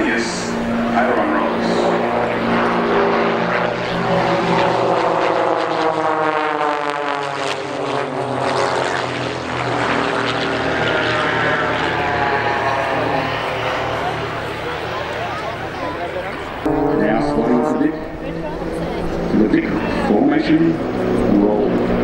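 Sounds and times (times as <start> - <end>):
propeller planes droning past: 0.0 - 22.0.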